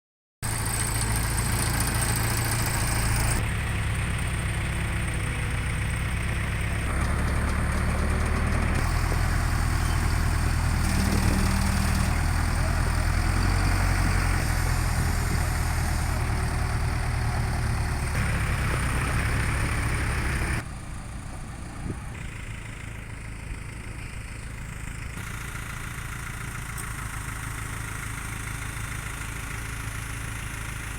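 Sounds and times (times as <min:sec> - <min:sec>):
truck engine running: 0:00.4 - 0:30.9.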